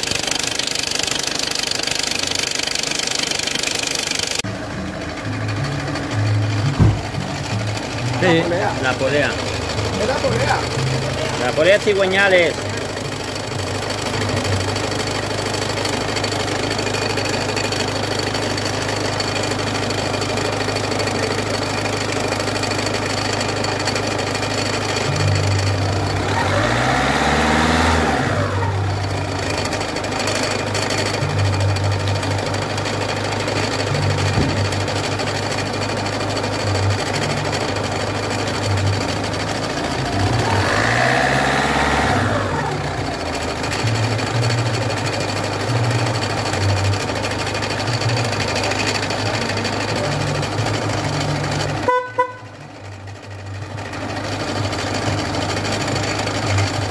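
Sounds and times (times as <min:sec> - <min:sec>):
diesel engine running: 0:00.0 - 0:56.9
engine knocking noise: 0:00.0 - 0:56.9.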